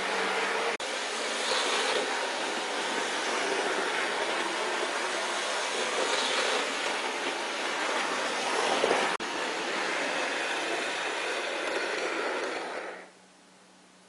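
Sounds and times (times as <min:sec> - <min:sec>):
model train motor whirring: 0:00.1 - 0:13.1.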